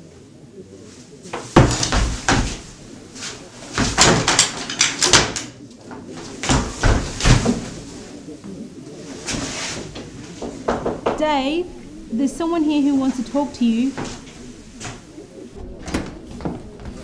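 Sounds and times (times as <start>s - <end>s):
heavy knocks and bangs: 1.3s - 8.1s, 9.3s - 17.0s.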